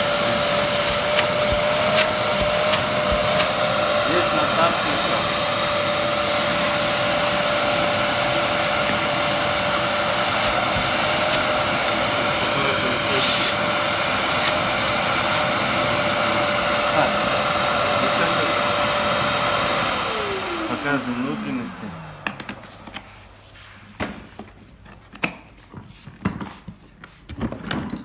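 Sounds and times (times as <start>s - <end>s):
vacuum cleaner running: 0.0s - 24.7s.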